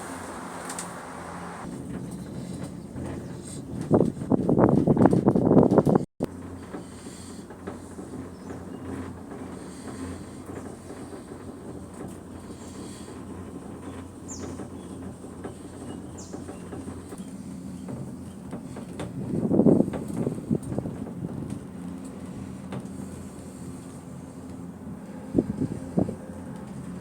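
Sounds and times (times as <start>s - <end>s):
gondola cabin rumble and hum: 0.0s - 27.0s.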